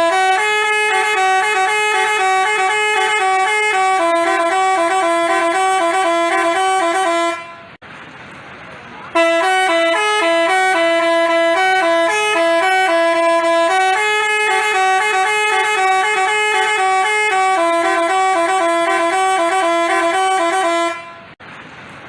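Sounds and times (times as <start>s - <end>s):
bus horn playing a melody: 0.0s - 7.8s, 9.1s - 21.4s.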